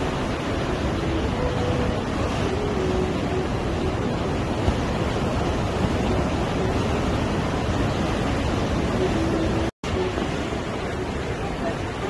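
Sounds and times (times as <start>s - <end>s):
waves breaking on rocks: 0.0s - 12.0s.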